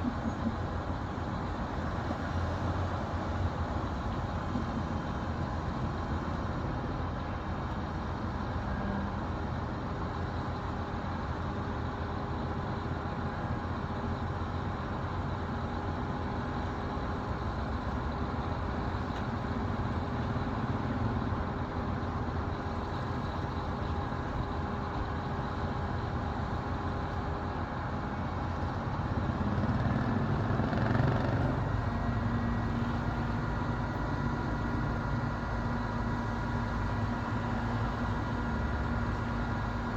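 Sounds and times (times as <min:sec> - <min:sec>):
construction machinery engines: 0:00.0 - 0:39.9.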